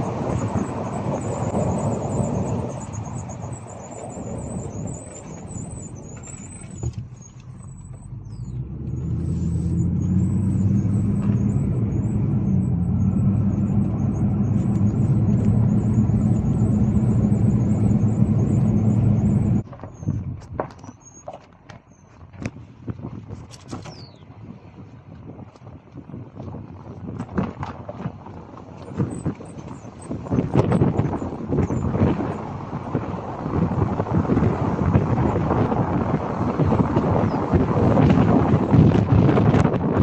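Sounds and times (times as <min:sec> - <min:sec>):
vehicle engine and road drone: 0:00.0 - 0:40.0.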